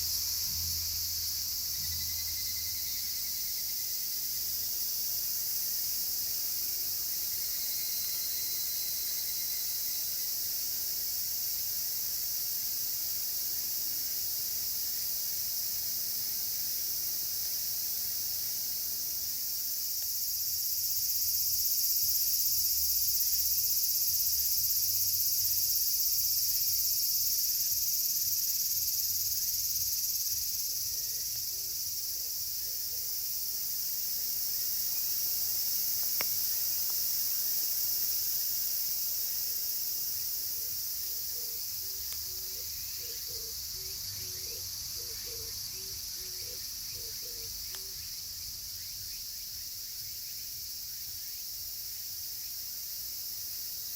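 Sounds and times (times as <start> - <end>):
cicadas shrilling: 0.0 - 53.9.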